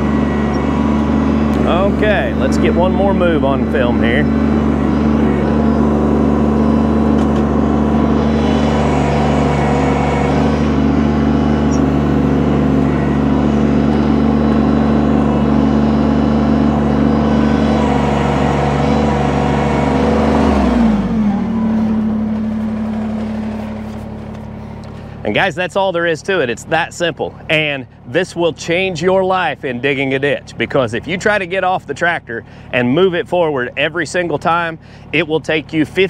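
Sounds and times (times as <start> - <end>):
diesel tractor engine running: 0.0 - 36.0.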